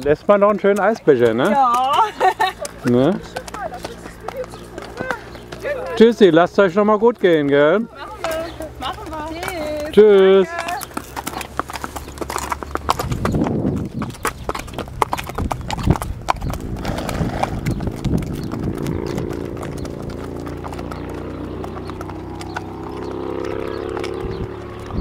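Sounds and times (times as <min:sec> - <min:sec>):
hooves clip-clopping on pavement: 0:00.0 - 0:25.0.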